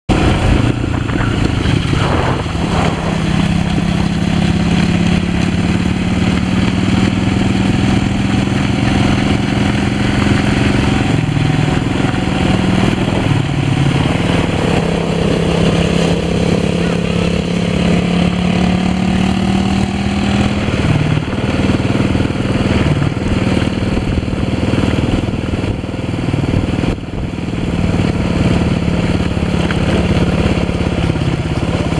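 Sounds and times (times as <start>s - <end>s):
vehicle engine: 0.0s - 31.9s
minibike engine: 0.1s - 31.9s.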